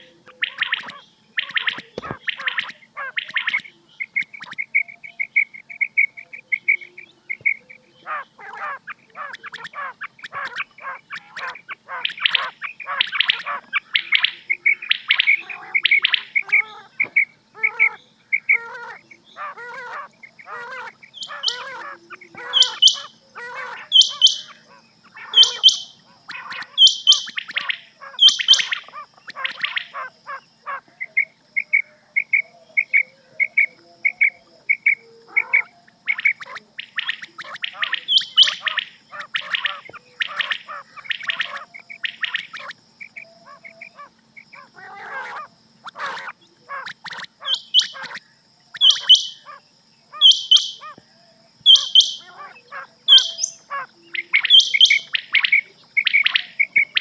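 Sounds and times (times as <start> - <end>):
quail whistled calls: 0.0 - 51.0, 51.6 - 57.0.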